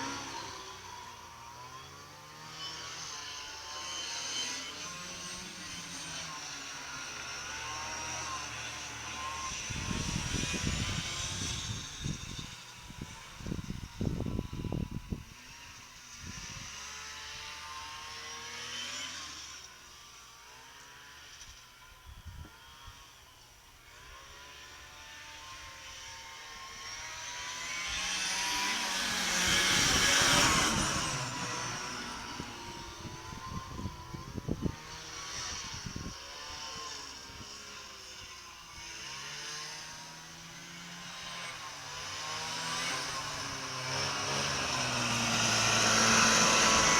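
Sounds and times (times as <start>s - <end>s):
snowmobile engine passing: 0.0s - 46.9s.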